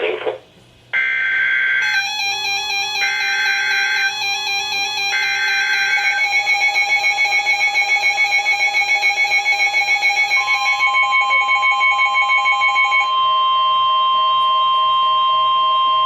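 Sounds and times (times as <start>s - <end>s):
pulsing multi-tone alarm: 1.0s - 16.0s
steady warning tone: 1.0s - 16.0s.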